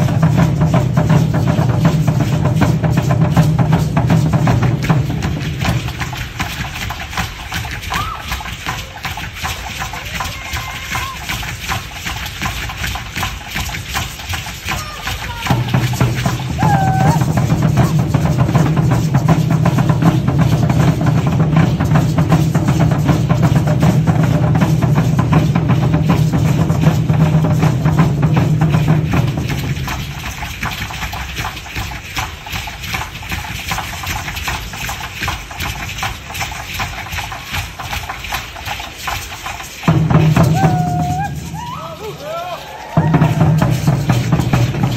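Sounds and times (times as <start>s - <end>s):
clattering percussion strokes: 0.0s - 44.9s
fast drumbeat: 0.0s - 44.9s.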